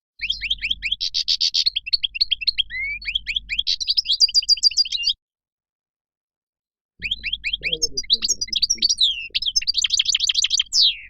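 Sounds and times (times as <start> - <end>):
finch twittering song: 0.2 - 5.2, 7.0 - 11.0.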